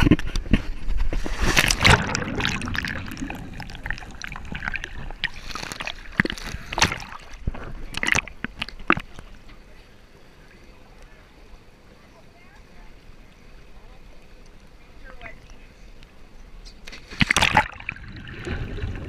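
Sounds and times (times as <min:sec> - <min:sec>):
water splashing against camera: 0:00.0 - 0:19.0.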